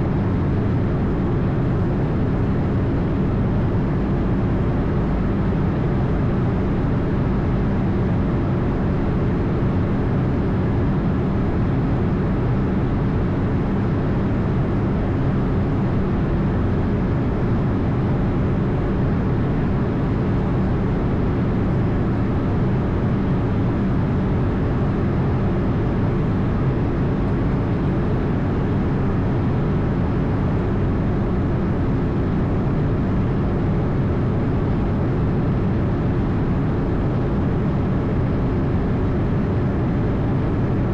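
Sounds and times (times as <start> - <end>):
aircraft cockpit engine rumble: 0.0 - 40.9.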